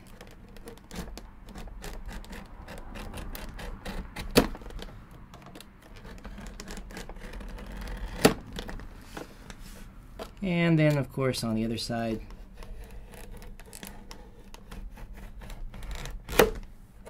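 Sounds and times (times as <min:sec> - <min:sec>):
knife scoring hard plastic: 0:00.0 - 0:11.1, 0:12.1 - 0:17.0.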